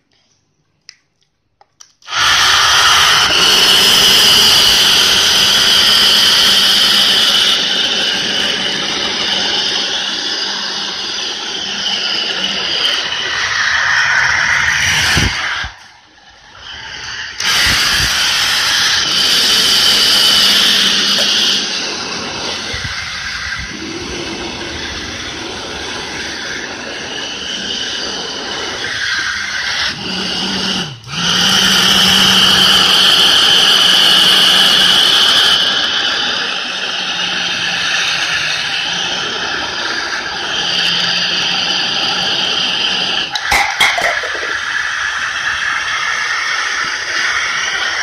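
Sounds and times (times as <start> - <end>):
small electric fan whirring: 1.8 - 48.0.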